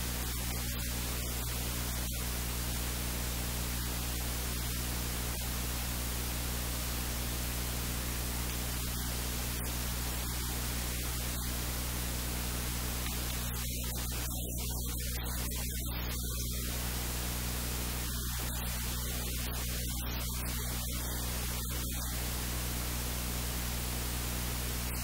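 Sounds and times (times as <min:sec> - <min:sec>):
low electrical hum: 0:00.0 - 0:25.0
static hiss: 0:00.0 - 0:25.0.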